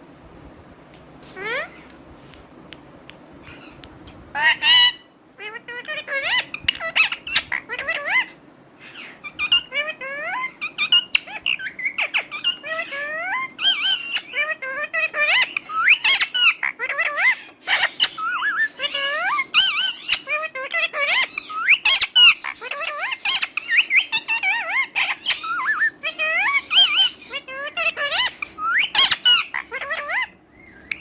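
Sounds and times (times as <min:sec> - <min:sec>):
parrot chattering and whistling: 0:03.5 - 0:31.0.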